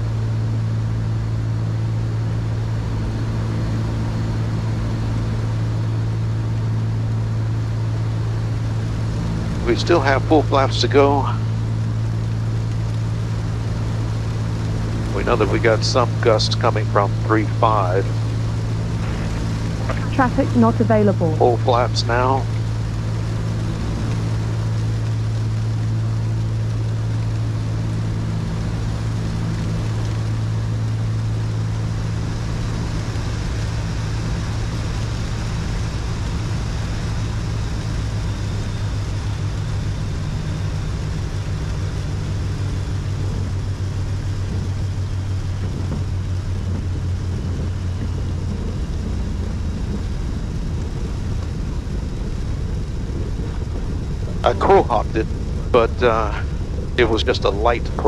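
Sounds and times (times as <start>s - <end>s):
propeller engines droning: 0.0s - 58.0s.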